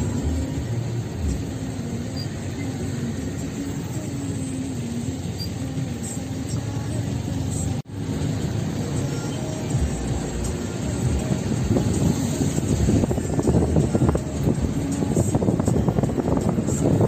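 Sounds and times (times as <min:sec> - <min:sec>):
road rumble: 0:00.0 - 0:17.0
vehicle engine hum: 0:00.0 - 0:17.0.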